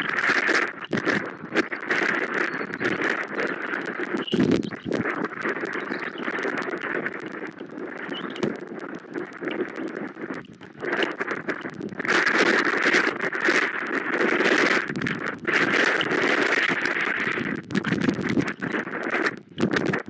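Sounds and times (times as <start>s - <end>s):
rain pattering on microphone: 0.0s - 20.0s.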